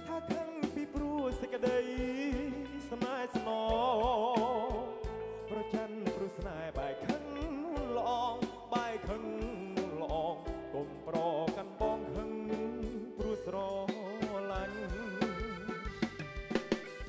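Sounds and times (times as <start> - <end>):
band music with vibrato lead: 0.0 - 17.0
steady drum beat: 0.0 - 17.0.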